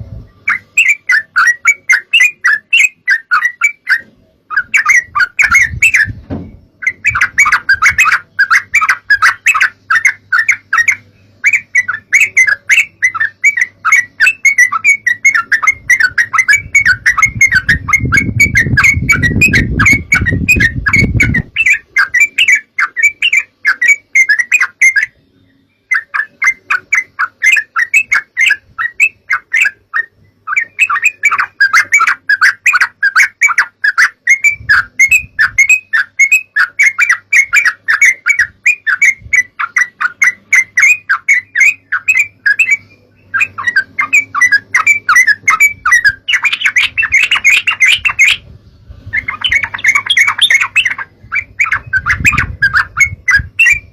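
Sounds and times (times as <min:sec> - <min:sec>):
bird chattering call: 0:06.8 - 0:25.2, 0:25.9 - 0:48.4, 0:49.2 - 0:53.9.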